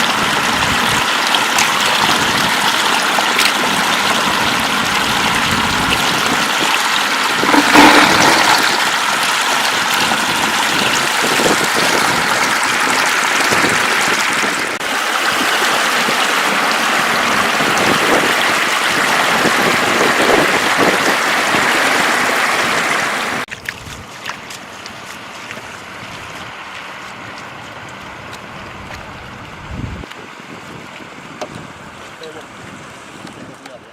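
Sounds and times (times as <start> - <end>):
floodwater rushing: 0.0 - 33.5.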